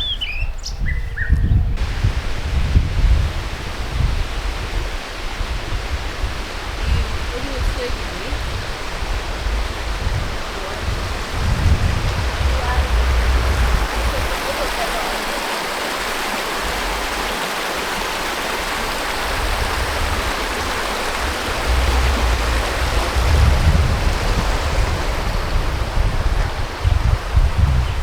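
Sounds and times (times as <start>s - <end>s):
wind buffeting microphone: 0.0s - 28.0s
rushing water: 1.8s - 28.0s.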